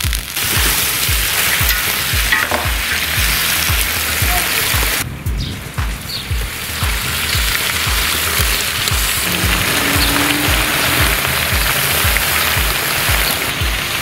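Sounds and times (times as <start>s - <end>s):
meat and onions sizzling: 0.0s - 5.0s, 6.0s - 14.0s
background music with beat: 0.0s - 14.0s.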